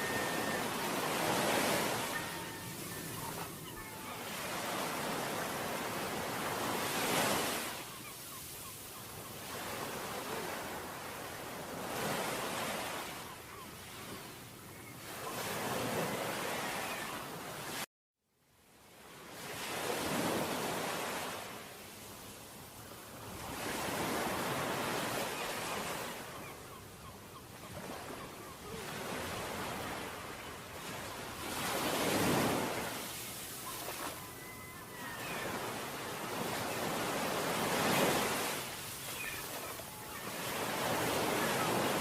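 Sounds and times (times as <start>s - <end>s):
sea wind: 0.0s - 17.8s, 18.9s - 42.0s.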